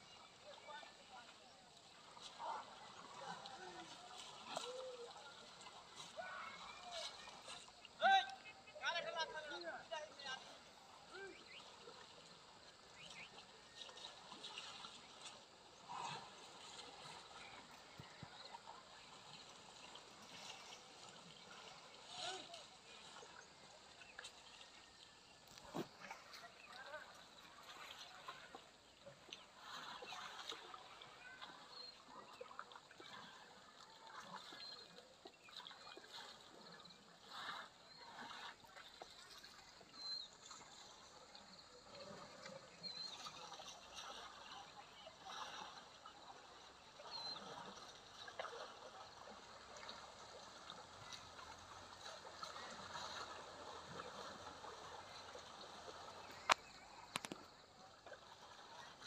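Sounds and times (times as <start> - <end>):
water splashing and sloshing: 0.0 - 59.0.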